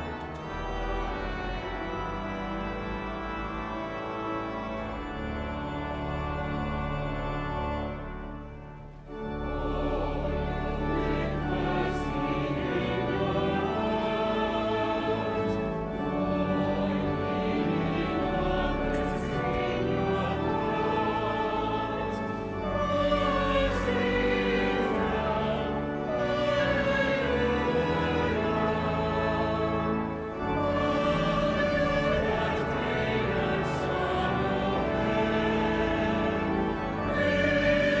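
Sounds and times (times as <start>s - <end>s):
choir singing: 0.0s - 38.0s
organ: 0.0s - 38.0s.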